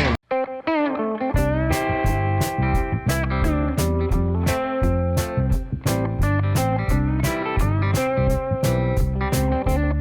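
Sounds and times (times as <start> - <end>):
guitar-driven music: 0.0 - 10.0
steady drum beat: 1.4 - 9.8.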